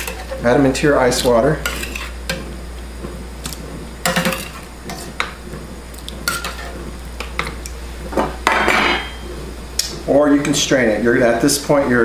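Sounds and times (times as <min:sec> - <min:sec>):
water boiling: 0:00.0 - 0:12.0.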